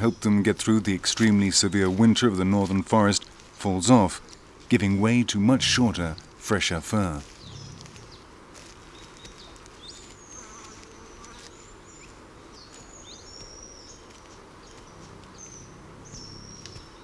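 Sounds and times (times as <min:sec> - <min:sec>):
faint insect hiss: 0:00.0 - 0:17.0.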